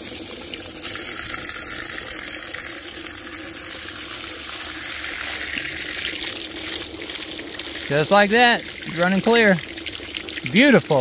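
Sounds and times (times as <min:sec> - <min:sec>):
water gushing from hose: 0:00.0 - 0:11.0.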